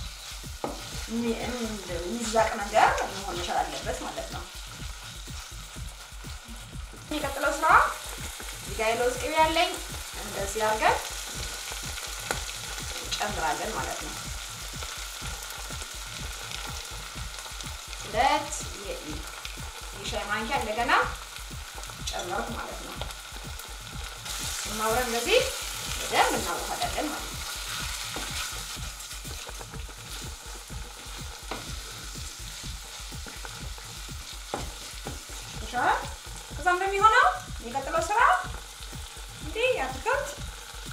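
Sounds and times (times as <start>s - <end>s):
sauce sizzling in frying pan: 0.0s - 40.9s.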